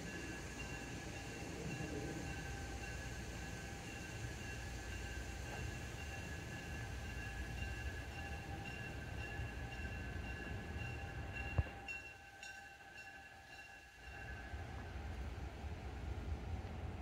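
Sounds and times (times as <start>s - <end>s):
diesel locomotive rumbling: 0.0s - 12.0s, 12.6s - 17.0s.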